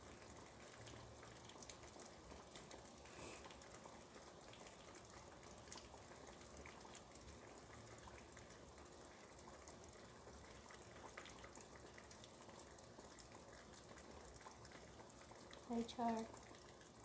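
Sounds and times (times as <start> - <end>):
faint rain heard from indoors: 0.0 - 17.0.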